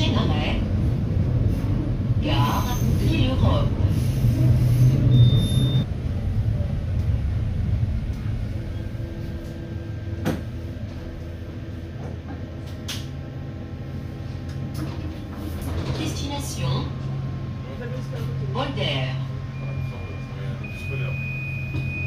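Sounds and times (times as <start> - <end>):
tram cabin hum: 0.0 - 22.0
tram running rumble: 0.0 - 22.0.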